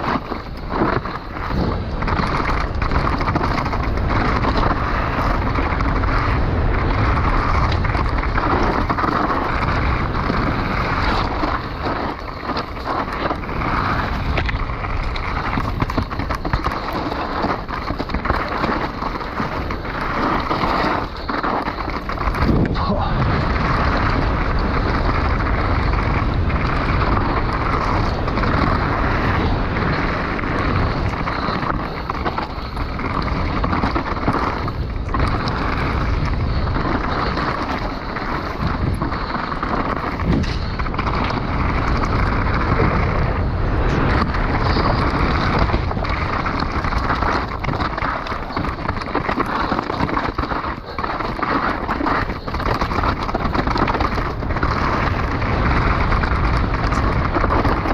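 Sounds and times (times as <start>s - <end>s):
drone propeller noise: 0.0s - 57.9s
wind rushing: 0.6s - 47.9s.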